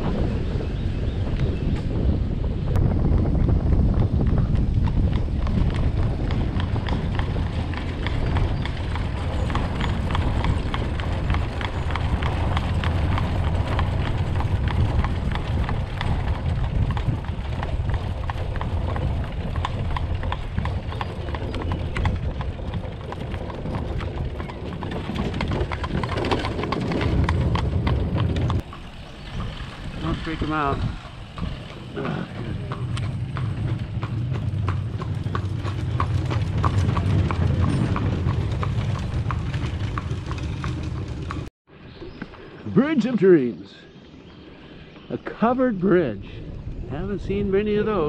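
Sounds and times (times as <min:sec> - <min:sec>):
horse hooves trotting on asphalt: 0:00.0 - 0:41.5
wind rumbling on microphone: 0:00.0 - 0:42.9, 0:43.9 - 0:48.0.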